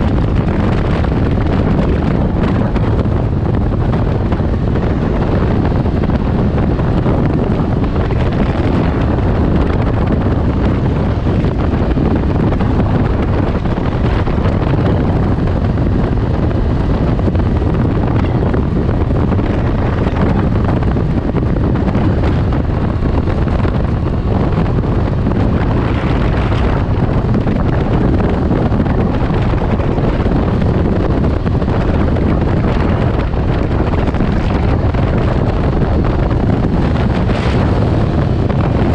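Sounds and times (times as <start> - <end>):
engine noise: 0.0 - 38.9
wind buffeting microphone: 0.0 - 38.9.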